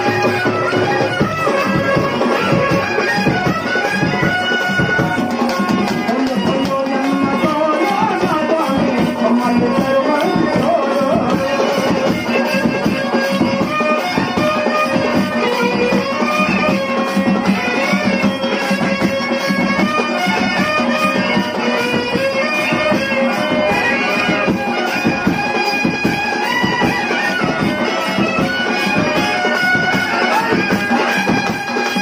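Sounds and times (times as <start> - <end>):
drumming: 0.0 - 32.0
reedy wind instrument melody: 0.0 - 32.0.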